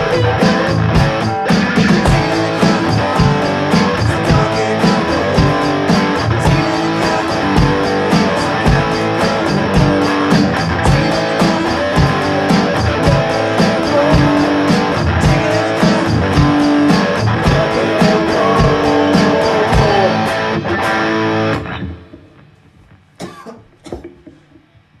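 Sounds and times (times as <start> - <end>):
loud rock music: 0.0 - 22.5.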